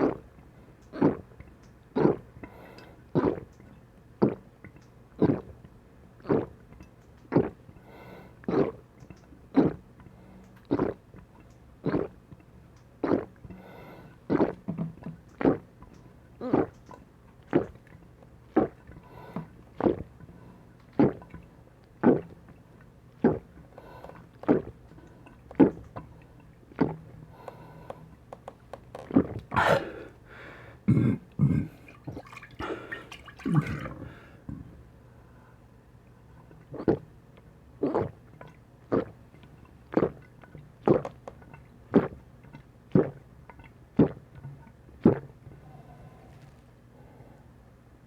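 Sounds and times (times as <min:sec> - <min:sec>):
person gulping a drink: 0:00.0 - 0:07.8, 0:08.4 - 0:09.9, 0:10.5 - 0:12.4, 0:13.0 - 0:20.2, 0:20.8 - 0:22.5, 0:23.1 - 0:34.7, 0:36.5 - 0:37.1, 0:37.8 - 0:45.4.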